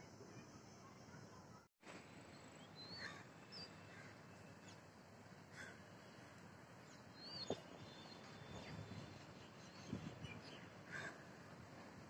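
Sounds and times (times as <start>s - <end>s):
faint bird chirps: 0.0s - 4.9s, 5.5s - 11.2s.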